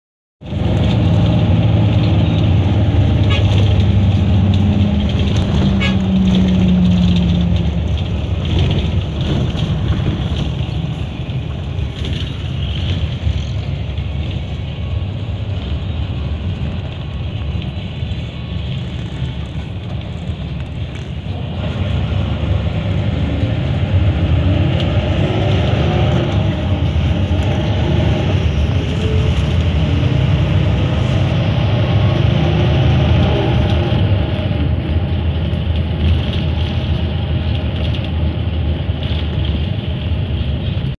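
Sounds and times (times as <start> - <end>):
bus engine hum: 0.4 - 40.9
road noise: 0.4 - 40.9.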